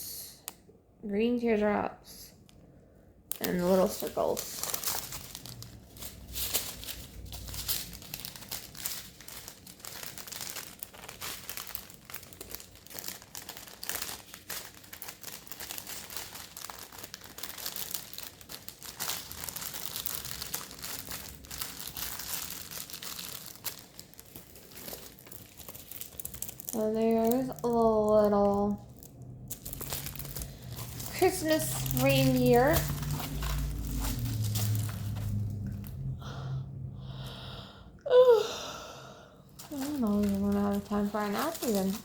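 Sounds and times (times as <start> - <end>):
plastic bags crinkling: 3.3 - 36.1, 39.4 - 42.0.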